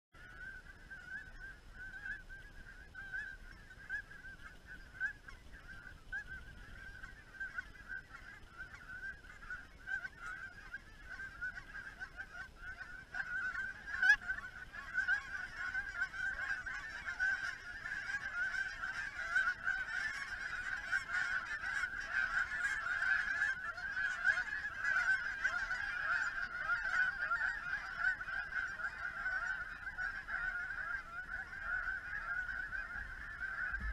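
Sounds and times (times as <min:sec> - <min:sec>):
geese calling: 0:00.2 - 0:33.9.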